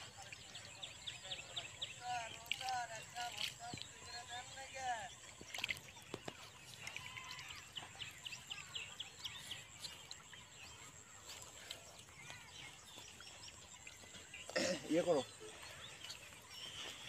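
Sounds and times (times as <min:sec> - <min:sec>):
faint outdoor ambience: 0:00.0 - 0:17.0
small birds chirping: 0:00.0 - 0:17.0.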